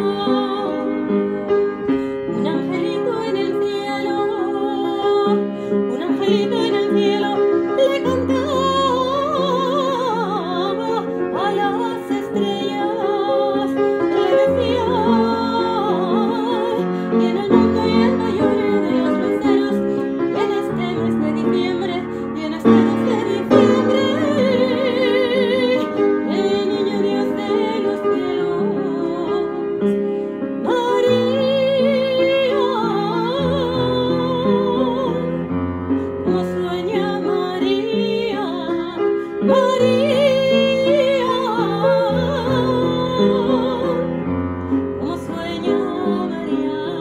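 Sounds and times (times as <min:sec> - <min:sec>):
woman singing operatically: 0:00.0 - 0:01.0, 0:02.3 - 0:29.8, 0:30.6 - 0:35.4, 0:36.2 - 0:44.2, 0:45.0 - 0:47.0
piano chords: 0:00.0 - 0:47.0.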